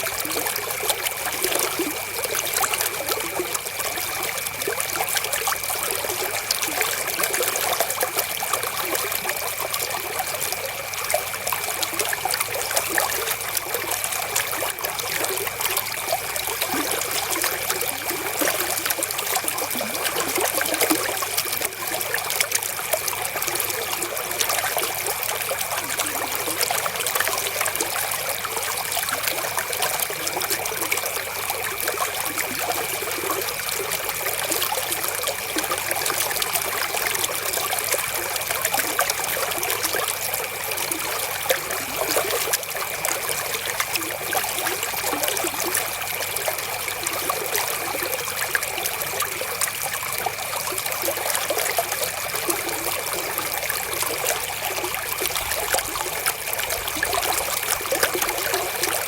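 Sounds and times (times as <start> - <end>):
river water trickling: 0.0 - 59.0.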